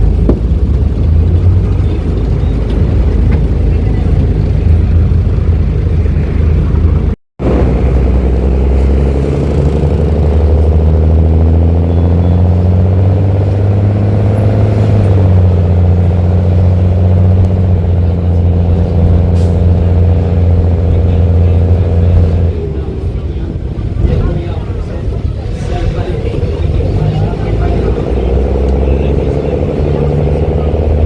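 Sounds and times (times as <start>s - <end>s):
bus diesel engine accelerating: 0.0s - 31.0s.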